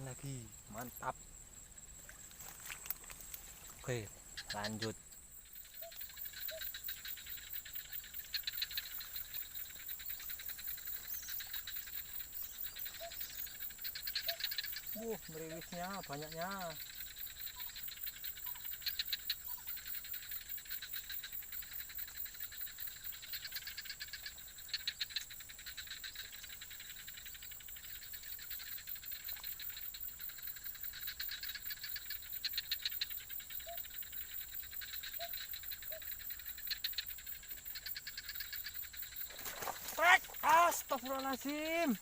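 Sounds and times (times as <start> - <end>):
frogs trilling: 0.0 - 42.0
high-pitched insect whine: 0.0 - 42.0.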